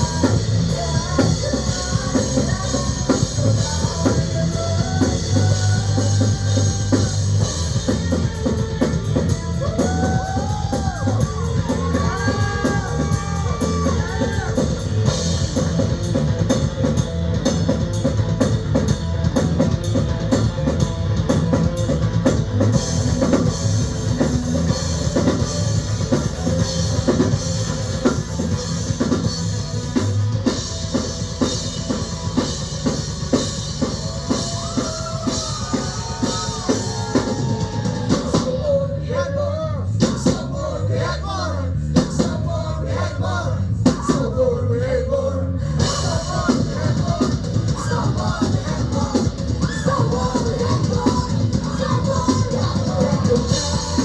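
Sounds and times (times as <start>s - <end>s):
pounding drums: 0.0s - 38.6s, 45.7s - 54.0s
live heavy rock band: 0.0s - 54.0s.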